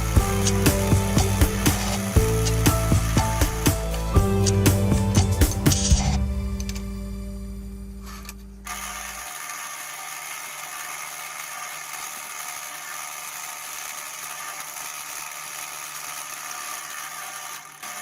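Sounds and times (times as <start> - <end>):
lathe whirring: 0.0 - 6.8, 8.0 - 18.0.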